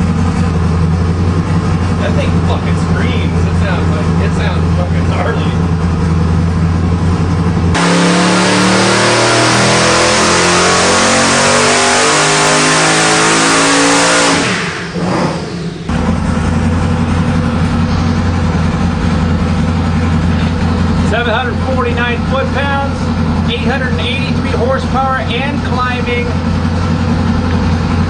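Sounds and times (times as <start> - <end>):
engine revving at full throttle: 0.0 - 28.0.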